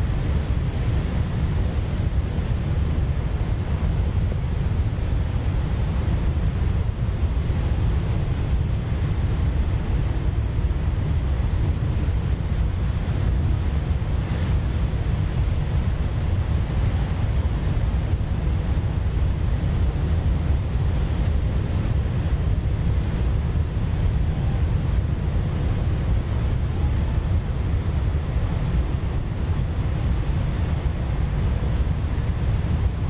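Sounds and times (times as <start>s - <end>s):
wind: 0.0s - 33.0s.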